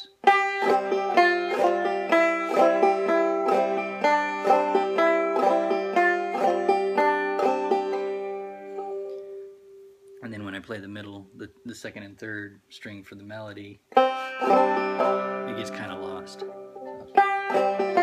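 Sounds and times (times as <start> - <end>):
banjo playing: 0.0 - 11.9, 13.8 - 18.0.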